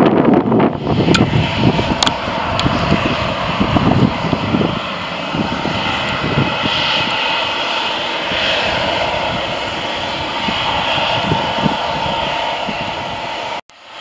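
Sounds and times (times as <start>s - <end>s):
wind buffeting microphone: 0.0s - 13.6s
jet engines roaring: 0.0s - 14.0s.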